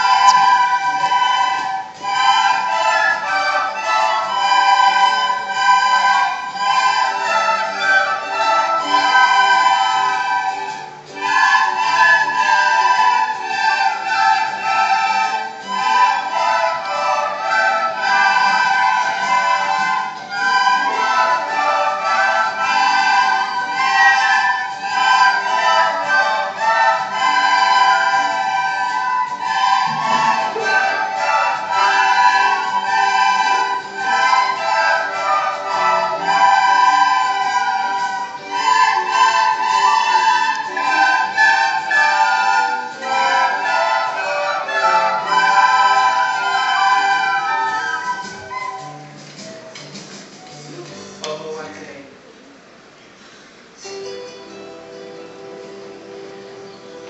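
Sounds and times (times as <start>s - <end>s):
children playing recorders: 0.0s - 50.3s.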